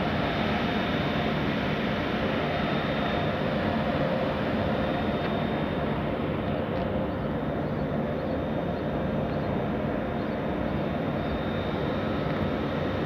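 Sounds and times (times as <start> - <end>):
electric locomotive hum and whine: 0.0 - 13.0
train rumbling: 0.0 - 13.0.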